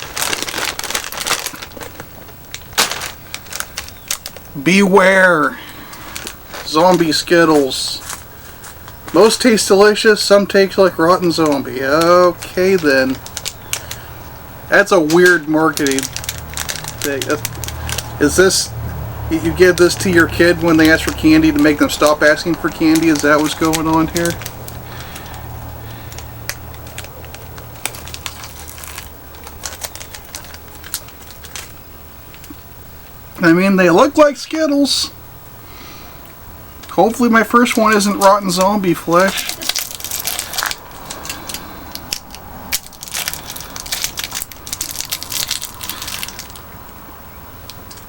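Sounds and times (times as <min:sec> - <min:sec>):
crunching and chewing candy: 0:00.0 - 0:04.6, 0:05.5 - 0:32.7, 0:36.8 - 0:46.9
plastic wrapper crinkling: 0:00.0 - 0:33.2, 0:36.8 - 0:46.8
steady low hum: 0:00.0 - 0:48.0.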